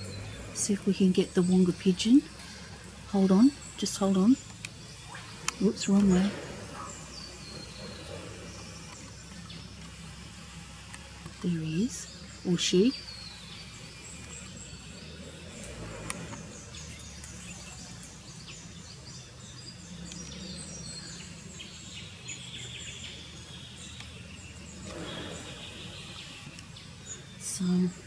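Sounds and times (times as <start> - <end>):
low steady background hum: 0.0 - 28.0
small birds chirping: 0.0 - 28.0.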